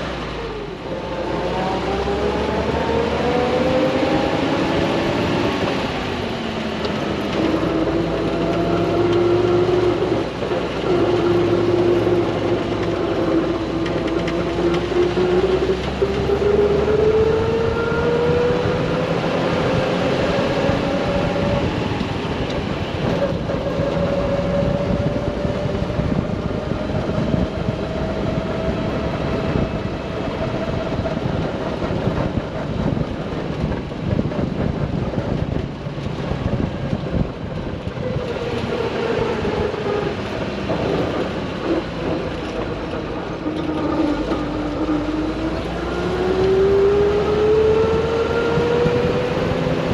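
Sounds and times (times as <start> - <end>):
drivetrain whine: 0.0 - 49.9
road and wind noise: 0.0 - 49.9
vehicle engine running: 0.0 - 49.9.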